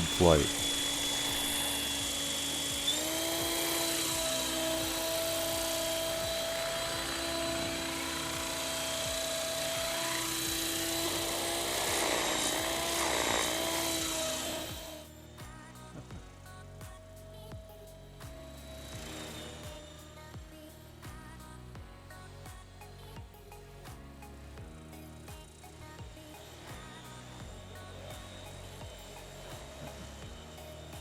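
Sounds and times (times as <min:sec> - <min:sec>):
rc helicopter rotor whining: 0:00.0 - 0:21.6, 0:22.2 - 0:31.0.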